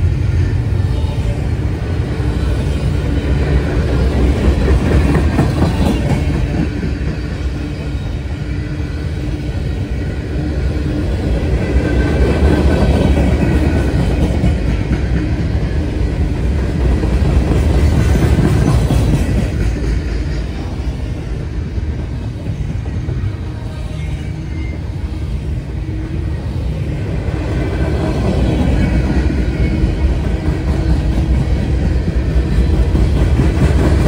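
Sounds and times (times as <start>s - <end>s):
freight train rolling past: 0.0s - 34.0s.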